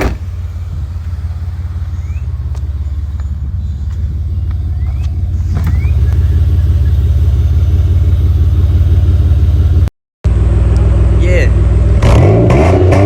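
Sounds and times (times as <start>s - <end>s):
car exhaust pulsing drone: 0.0s - 13.0s.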